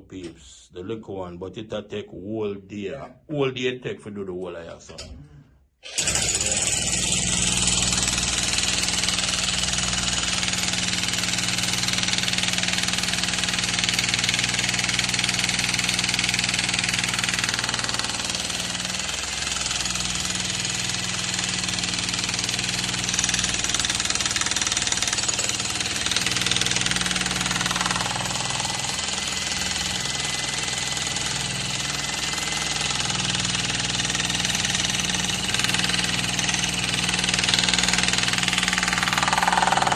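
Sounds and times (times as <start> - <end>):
jackhammer hammering: 5.9 - 39.9.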